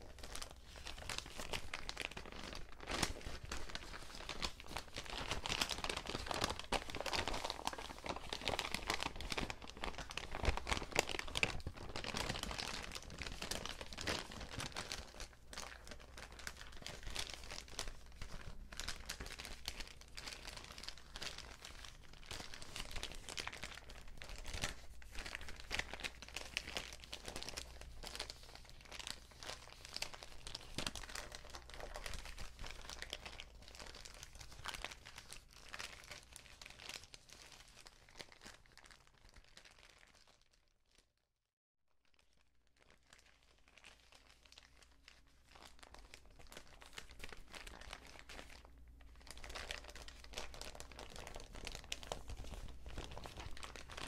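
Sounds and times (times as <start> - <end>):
paper bags crinkling: 0.0 - 39.0, 42.8 - 54.0.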